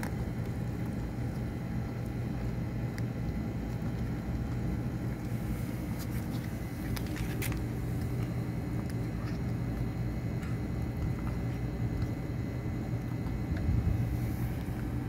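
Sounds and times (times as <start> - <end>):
kittens chewing clicks: 0.0 - 15.0
steady low hum: 0.0 - 15.0.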